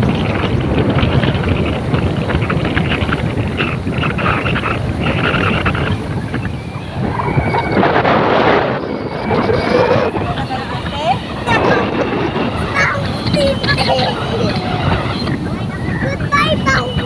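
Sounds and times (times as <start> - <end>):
road and engine rumble: 0.0 - 17.0
wind buffeting microphone: 0.0 - 17.0.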